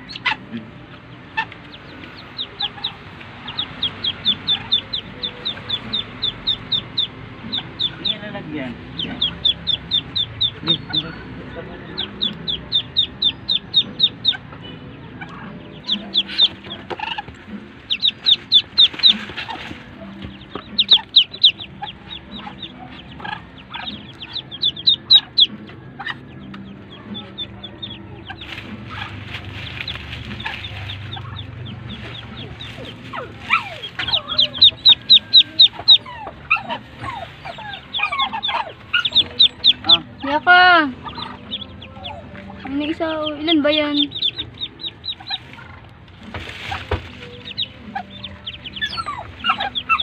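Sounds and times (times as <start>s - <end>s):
ducklings peeping: 0.0s - 50.0s.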